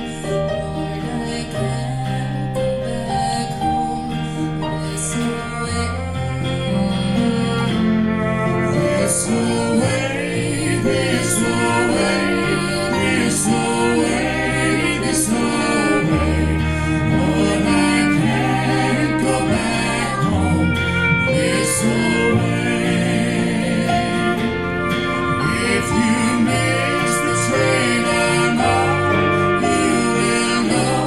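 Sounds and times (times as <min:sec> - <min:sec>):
people singing: 0:00.0 - 0:31.0
strummed acoustic instruments: 0:00.0 - 0:31.0
bass line: 0:05.6 - 0:31.0.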